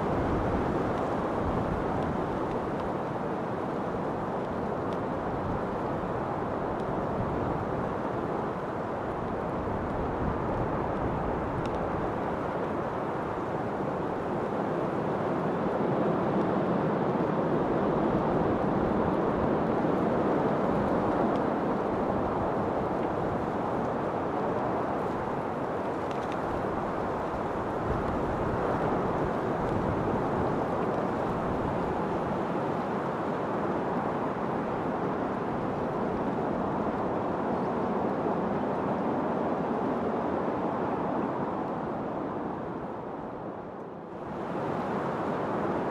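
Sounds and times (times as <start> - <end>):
rushing wind: 0.0 - 45.9.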